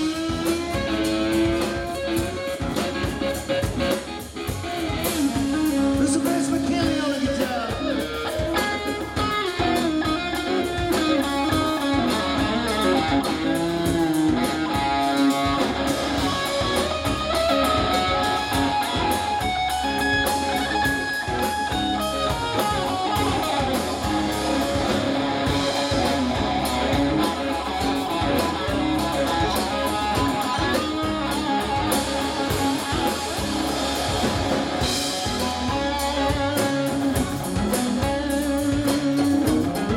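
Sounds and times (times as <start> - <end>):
electric guitar lead lines: 0.0 - 39.9
rock band playing: 0.0 - 39.9.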